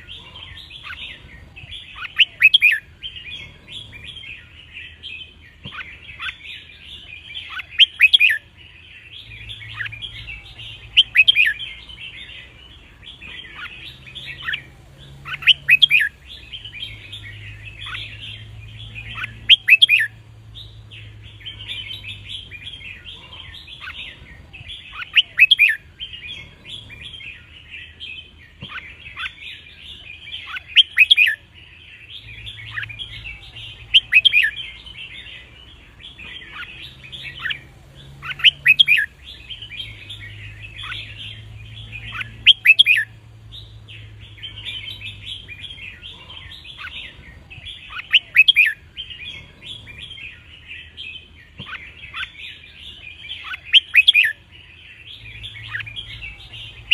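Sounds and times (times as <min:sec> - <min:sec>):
bulbuls singing: 0:00.0 - 0:56.9
chattering bird calls: 0:00.0 - 0:56.9.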